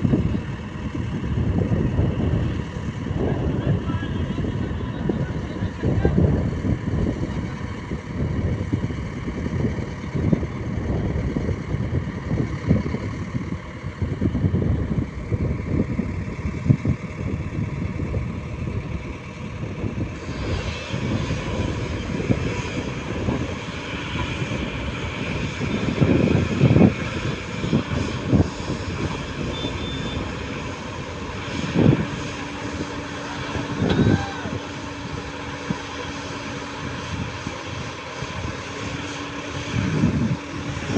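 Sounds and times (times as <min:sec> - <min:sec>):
heavy diesel engine rumbling: 0:00.0 - 0:40.9.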